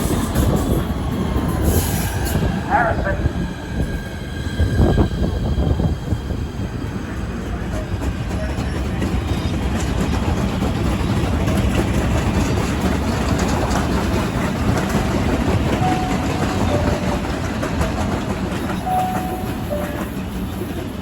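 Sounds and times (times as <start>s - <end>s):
train rumbling past on tracks: 0.0s - 21.0s.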